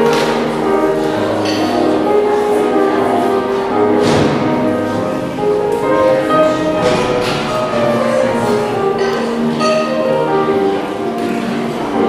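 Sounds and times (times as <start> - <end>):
instrumental music with held notes: 0.0 - 12.0.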